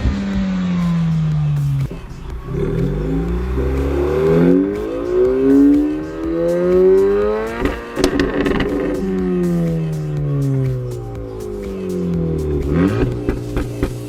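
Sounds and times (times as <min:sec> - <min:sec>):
car engine accelerating: 0:00.0 - 0:14.0
exhaust crackles: 0:00.0 - 0:14.0.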